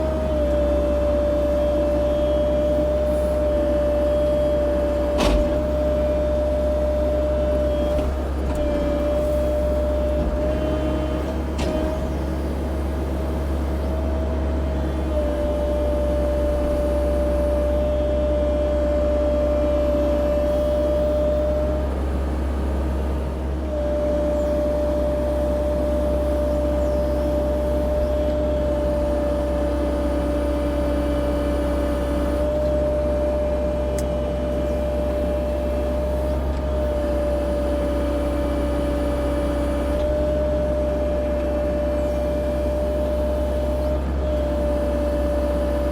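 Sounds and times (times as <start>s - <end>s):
excavator engine drone: 0.0s - 45.9s.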